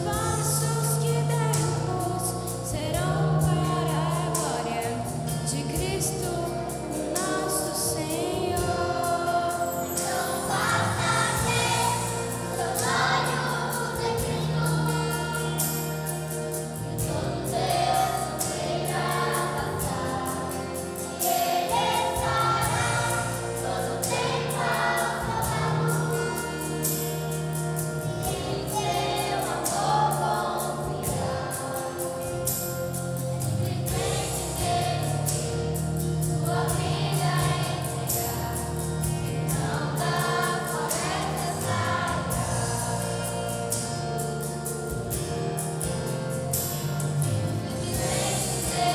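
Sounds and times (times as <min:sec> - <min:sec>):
children's choir singing: 0:00.0 - 0:45.0, 0:46.5 - 0:48.9
instrumental accompaniment with beat: 0:00.0 - 0:48.9.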